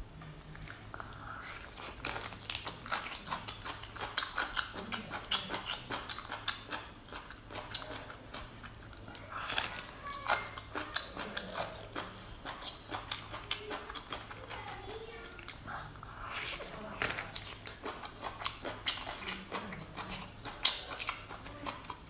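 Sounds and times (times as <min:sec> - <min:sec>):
wet chewing and crunching: 0:00.4 - 0:22.0.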